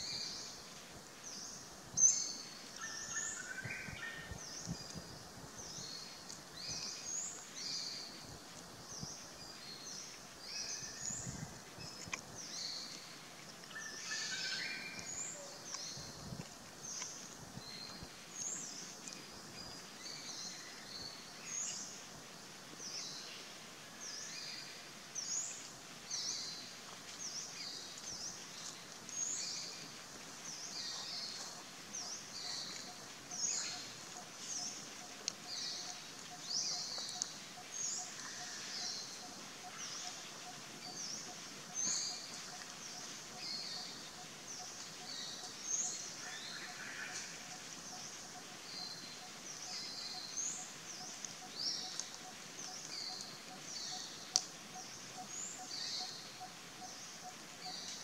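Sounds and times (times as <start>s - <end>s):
forest background noise: 0.0s - 58.0s.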